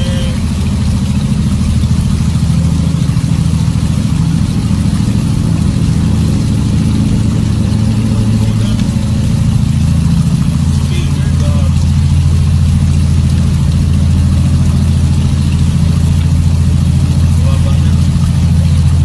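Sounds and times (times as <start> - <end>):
vehicle driving through water: 0.0 - 19.0.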